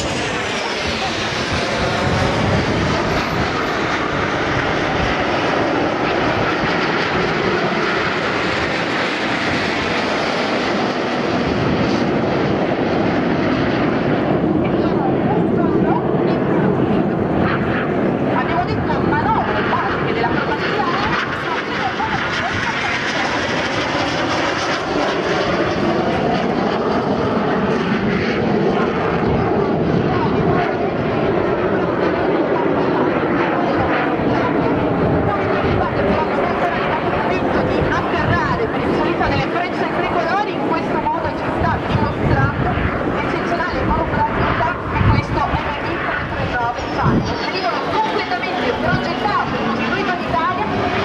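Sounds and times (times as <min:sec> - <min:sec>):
jet aircraft roar: 0:00.0 - 0:51.0.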